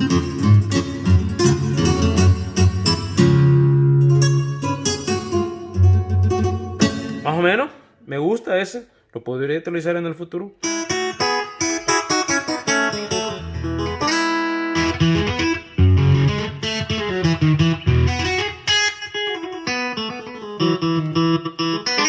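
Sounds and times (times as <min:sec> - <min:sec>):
keyboard playing guitar voice: 0:00.0 - 0:07.7, 0:10.6 - 0:22.0.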